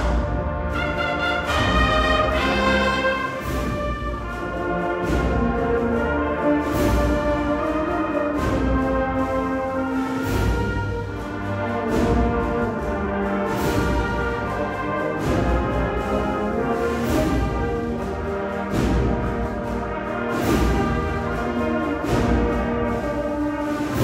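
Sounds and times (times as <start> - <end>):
brass band playing a march: 0.0 - 24.0.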